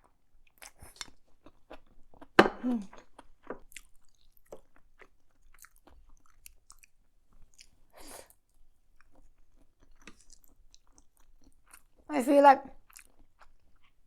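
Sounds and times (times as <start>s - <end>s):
person chewing noodles: 0.4s - 12.1s, 12.8s - 14.0s.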